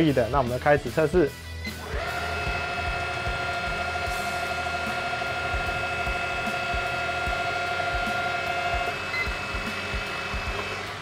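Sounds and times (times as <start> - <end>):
drill whining in metal: 1.4 - 11.0.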